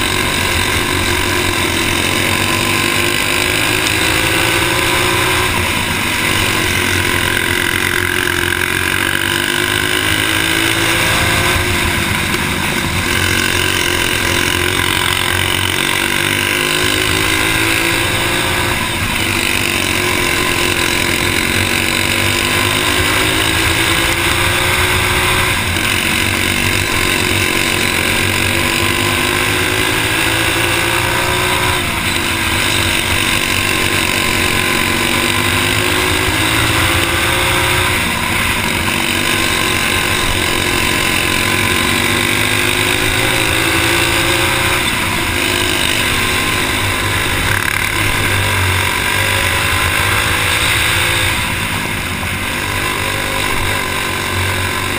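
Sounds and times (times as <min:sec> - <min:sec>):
go-kart engine revving: 0:00.0 - 0:54.9.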